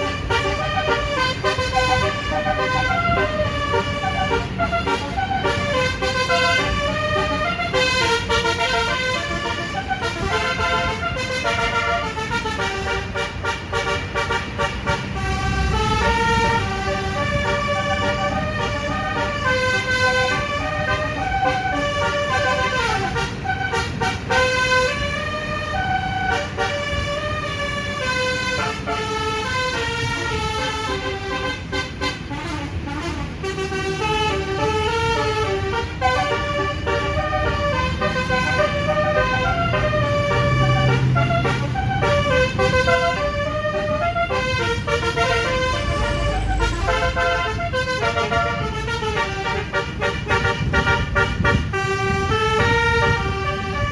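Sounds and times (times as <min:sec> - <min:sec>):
bus engine rumble: 0:00.0 - 0:53.9
multi-tone musical bus horn: 0:00.0 - 0:53.9.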